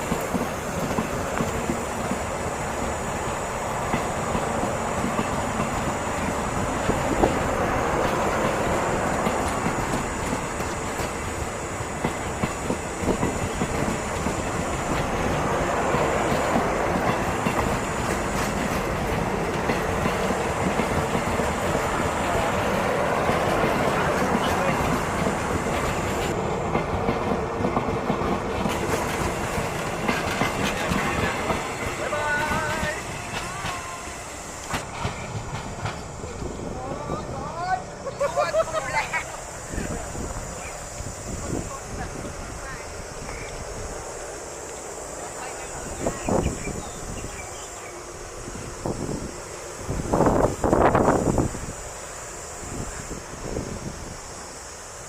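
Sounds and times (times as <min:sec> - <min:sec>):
clicks of train wheels: 0:00.0 - 0:36.5, 0:39.4 - 0:55.0
train wheels rumbling on rails: 0:00.0 - 0:55.0.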